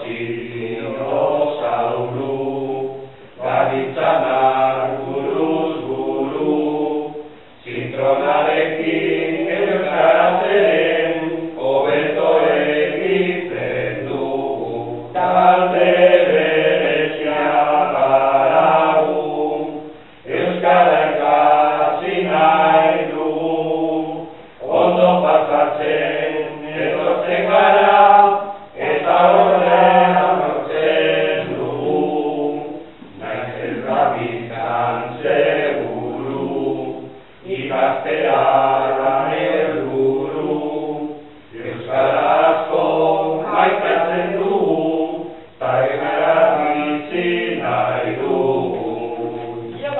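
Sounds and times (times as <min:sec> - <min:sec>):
group singing in unison: 0:00.0 - 0:49.9.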